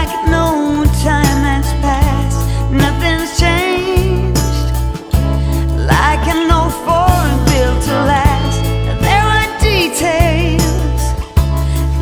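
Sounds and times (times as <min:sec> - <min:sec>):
song with wavering vocals and beat: 0:00.0 - 0:12.0.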